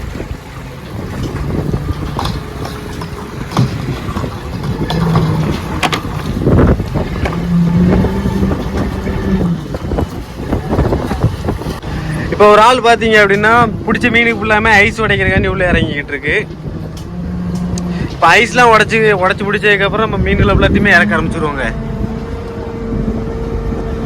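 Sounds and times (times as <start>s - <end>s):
low hum: 0.0s - 12.5s, 13.2s - 24.0s
boat engine running: 0.0s - 24.0s
wind buffeting microphone: 0.0s - 24.0s.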